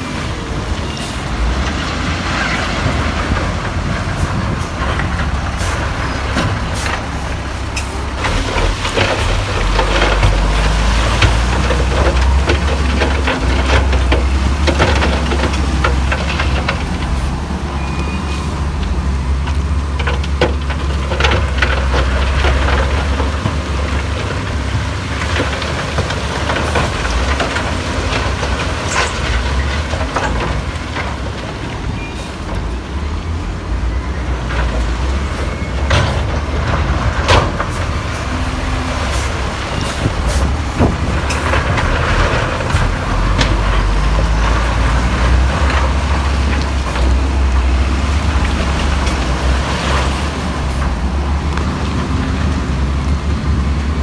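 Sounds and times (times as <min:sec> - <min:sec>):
diesel engine rumble: 0:00.0 - 0:54.0
machinery clanks and knocks: 0:00.0 - 0:54.0.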